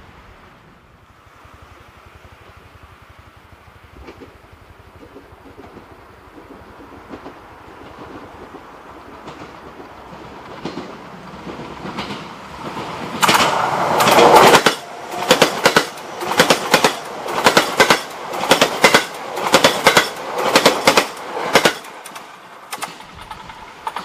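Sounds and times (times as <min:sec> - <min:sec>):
train passing: 0:00.0 - 0:24.0
wheels clicking over rail joints: 0:03.4 - 0:24.0.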